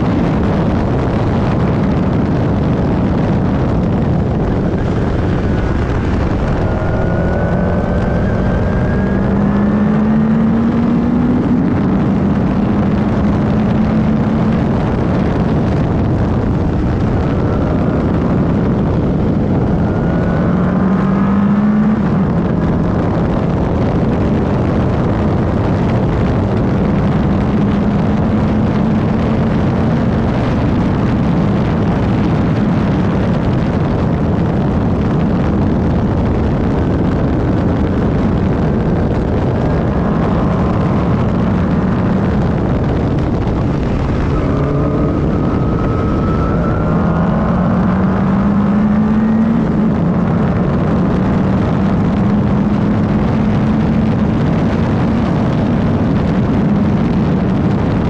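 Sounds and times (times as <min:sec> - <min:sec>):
wind and tyre noise: 0:00.0 - 0:58.0
racing car engine revving: 0:00.1 - 0:58.0.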